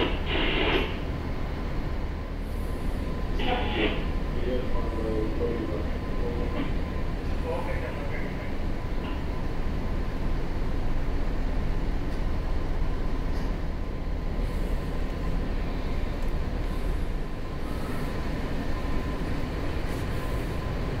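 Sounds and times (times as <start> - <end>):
ship machinery low rumble: 0.0 - 21.0.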